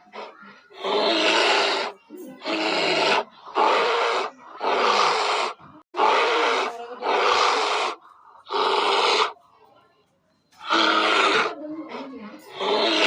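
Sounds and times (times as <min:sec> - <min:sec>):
large animal roaring: 0:00.0 - 0:09.4, 0:10.6 - 0:13.0.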